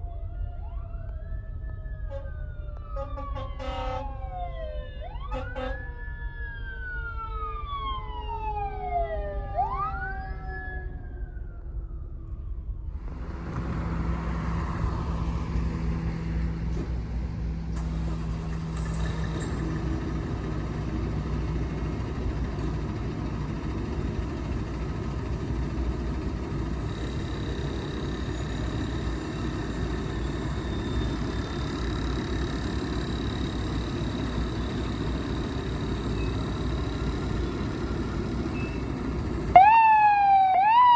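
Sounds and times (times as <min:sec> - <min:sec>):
fire truck sirens wailing: 0:00.0 - 0:16.6, 0:17.2 - 0:40.9
engine and road noise: 0:00.0 - 0:40.9.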